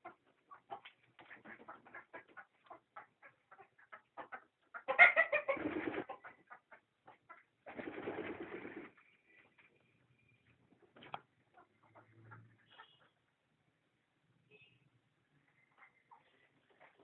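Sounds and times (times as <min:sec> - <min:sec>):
chickens clucking: 0:00.0 - 0:09.6, 0:10.7 - 0:14.0, 0:15.4 - 0:17.0.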